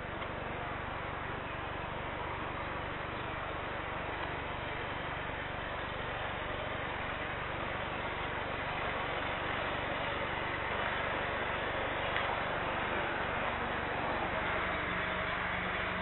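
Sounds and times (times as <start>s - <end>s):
distant jet engines idling: 0.0s - 16.0s.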